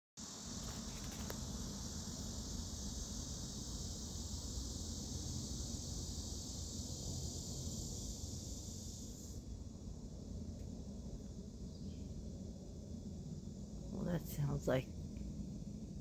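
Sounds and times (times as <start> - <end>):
cicadas buzzing: 0.2 - 16.0.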